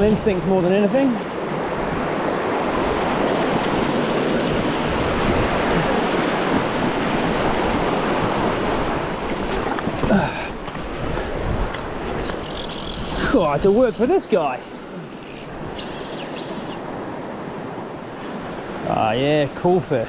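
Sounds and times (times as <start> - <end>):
river water rushing: 0.0 - 19.8.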